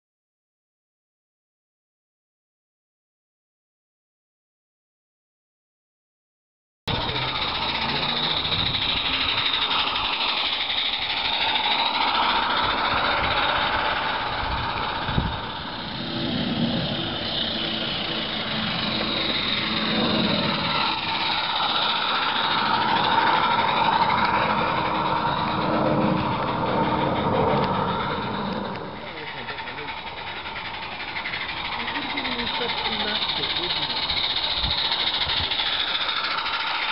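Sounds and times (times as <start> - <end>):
model steam locomotive hissing: 6.9 - 36.9.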